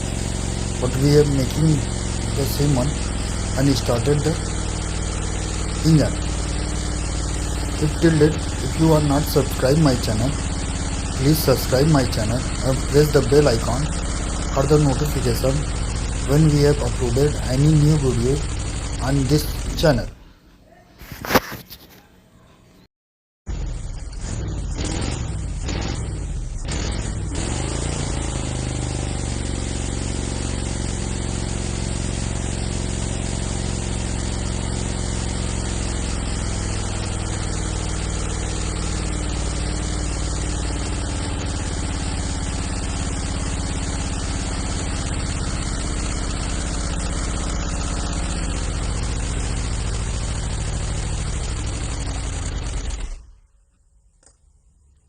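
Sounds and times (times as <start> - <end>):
old engine running: 0.0 - 20.2, 23.5 - 53.4.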